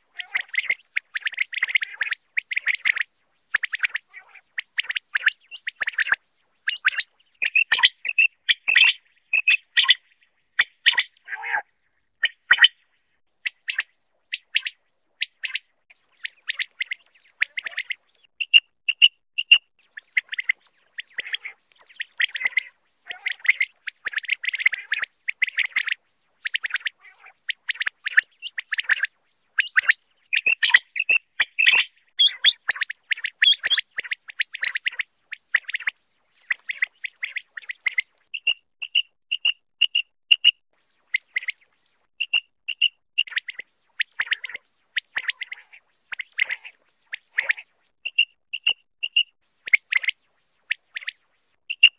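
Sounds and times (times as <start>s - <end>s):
quail rapid chirping: 0.0s - 12.8s, 13.4s - 51.9s
quail clear piping notes: 0.0s - 51.9s.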